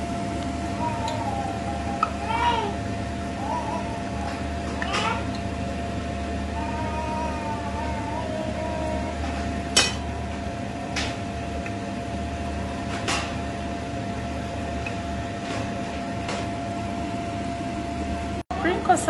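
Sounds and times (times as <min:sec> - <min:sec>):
kitchen hum: 0:00.0 - 0:19.0.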